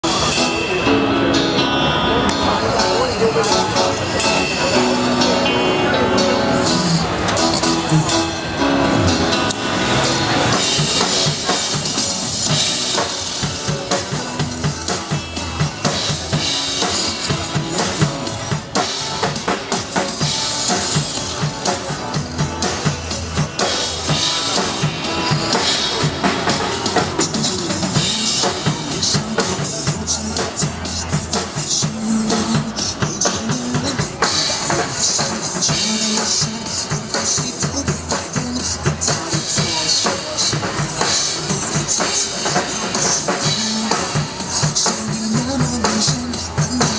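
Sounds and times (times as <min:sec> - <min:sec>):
drum kit fast beat: 0:02.8 - 0:46.9.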